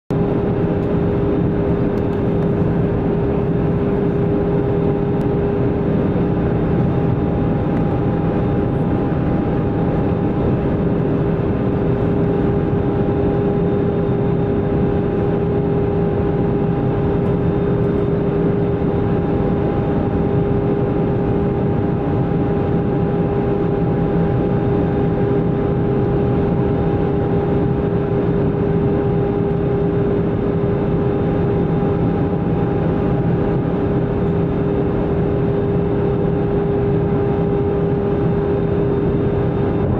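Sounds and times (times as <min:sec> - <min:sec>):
airliner cabin noise: 0:00.1 - 0:39.9
steady droning hum: 0:00.1 - 0:39.9.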